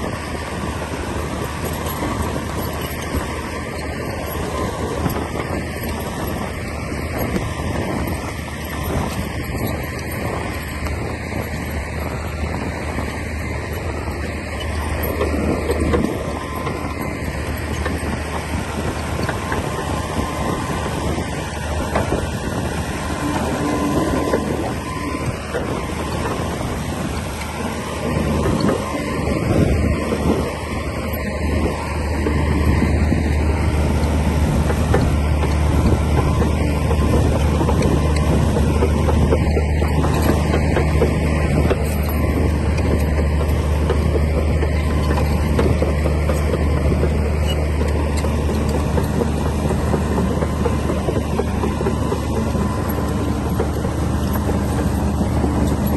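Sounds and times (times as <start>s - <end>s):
bulldozer diesel engine running: 0.0s - 55.9s
machinery rattling: 0.0s - 55.9s.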